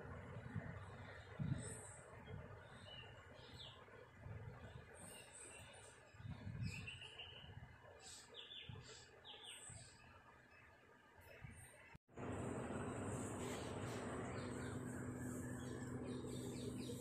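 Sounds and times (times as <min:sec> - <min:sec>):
small birds chirping: 0:01.0 - 0:10.8, 0:12.8 - 0:17.0.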